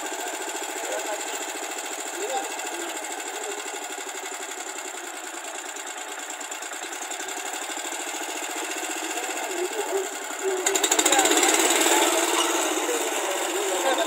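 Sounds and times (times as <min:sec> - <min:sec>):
small tractor engine running and revving: 0:00.0 - 0:14.0.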